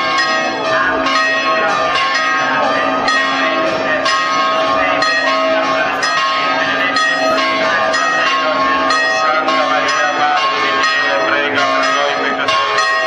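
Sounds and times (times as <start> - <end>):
church bells pealing: 0.0 - 13.0.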